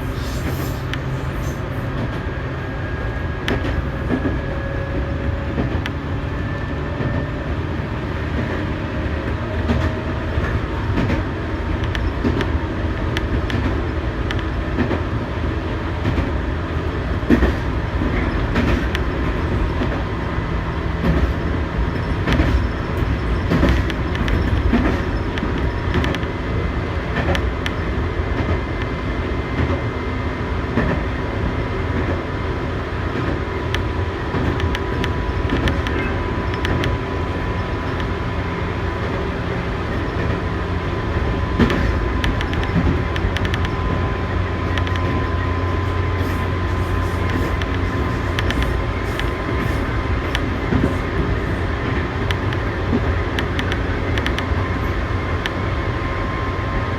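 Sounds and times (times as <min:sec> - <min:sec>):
electric train rumble: 0:00.0 - 0:56.9
wheels clicking on track: 0:03.5 - 0:29.8, 0:33.1 - 0:55.6.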